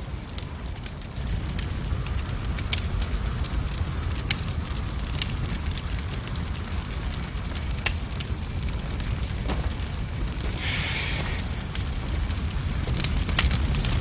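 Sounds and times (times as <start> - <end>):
fire roaring and crackling: 0.0 - 14.0.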